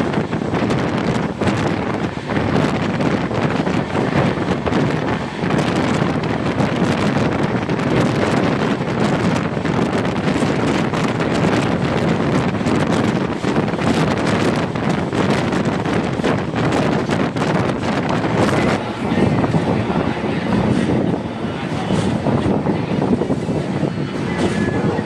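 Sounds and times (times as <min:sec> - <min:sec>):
train coach running on track: 0:00.0 - 0:25.0
wind blowing over microphone: 0:00.0 - 0:25.0.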